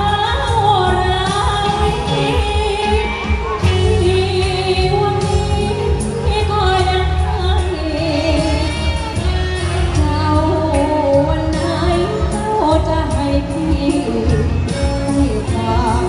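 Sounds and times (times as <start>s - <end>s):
amplified band with bass beat: 0.0s - 16.0s
person singing into microphone: 0.0s - 16.0s.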